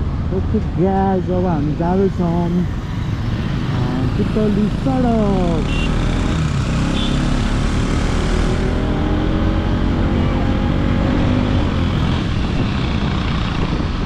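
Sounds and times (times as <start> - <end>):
road and wind rumble: 0.0 - 14.0.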